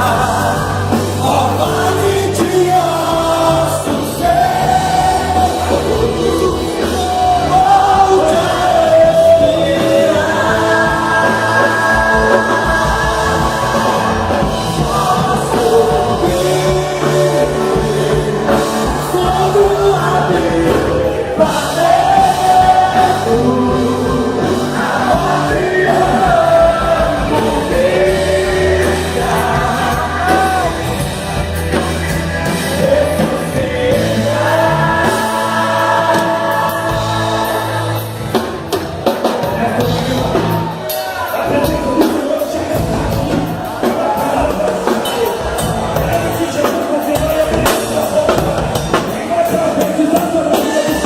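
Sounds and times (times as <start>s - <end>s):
gospel band playing: 0.0s - 51.0s
people singing: 0.0s - 51.0s
steady bass: 0.0s - 51.0s.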